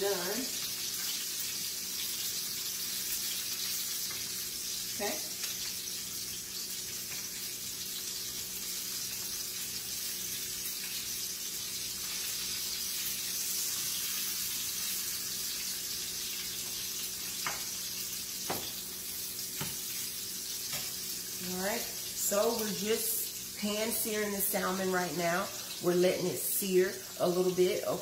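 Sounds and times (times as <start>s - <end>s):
fish sizzling in a hot pan: 0.0s - 28.0s.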